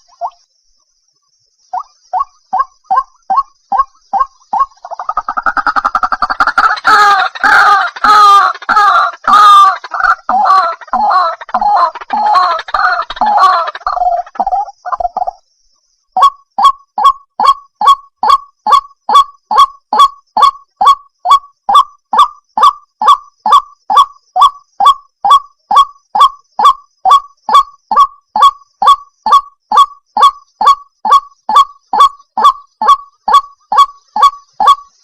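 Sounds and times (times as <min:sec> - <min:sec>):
waterhen calling harsh notes: 0:04.2 - 0:15.2, 0:16.2 - 0:35.0.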